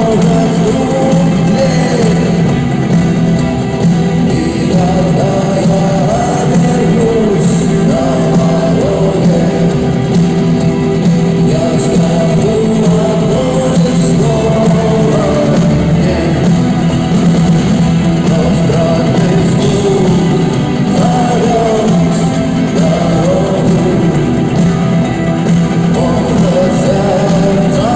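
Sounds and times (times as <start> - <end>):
live rock band with singing: 0.0 - 27.9.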